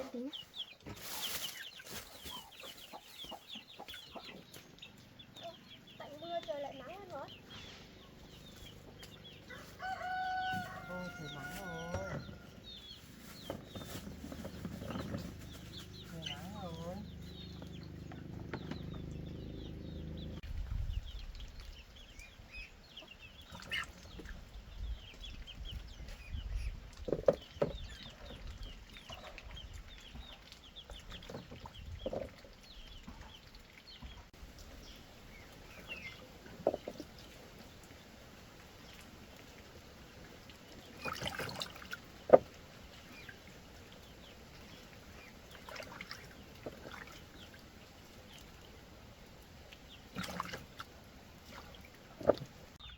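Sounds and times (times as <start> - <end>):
chickens clucking: 0.0 - 20.4, 22.9 - 52.9.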